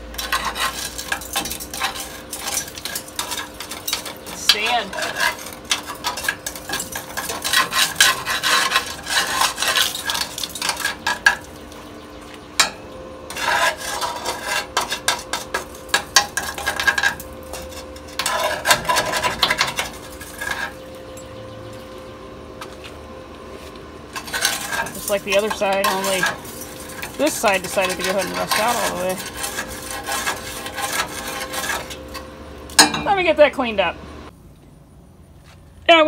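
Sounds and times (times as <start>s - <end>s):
sand scraping against metal: 0.0s - 12.0s, 12.6s - 34.0s.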